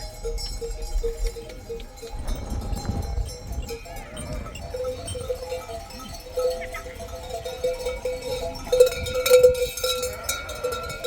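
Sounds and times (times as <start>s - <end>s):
livestock bells clanking: 0.0s - 11.0s.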